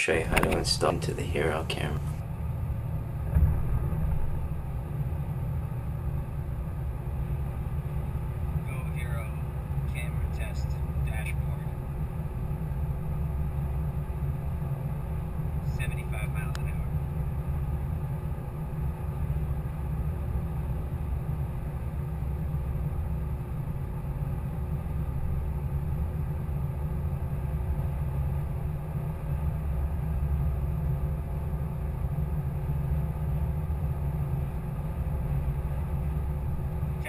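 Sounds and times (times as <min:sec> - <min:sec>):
faint steady hum: 0:00.0 - 0:37.0
steady low rumble: 0:00.0 - 0:37.0.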